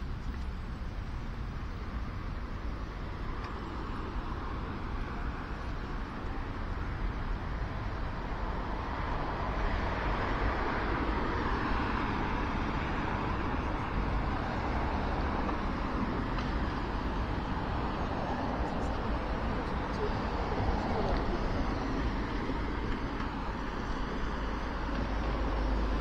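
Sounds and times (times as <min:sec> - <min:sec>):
cars driving by: 0:00.0 - 0:26.0.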